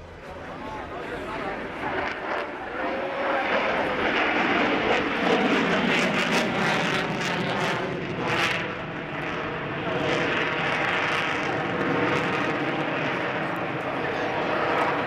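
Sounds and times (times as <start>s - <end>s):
aircraft flying past: 0.9s - 15.0s.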